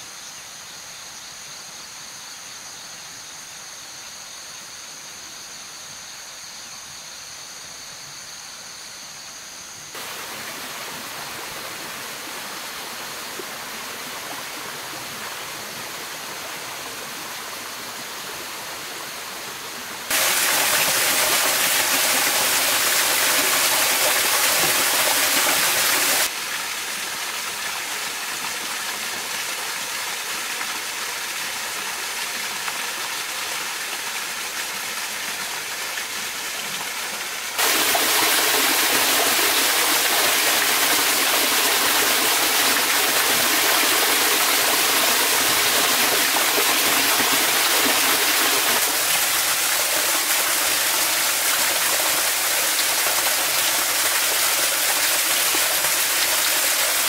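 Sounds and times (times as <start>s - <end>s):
running water rushing: 9.9s - 57.0s
small waterfall splashing: 9.9s - 57.0s.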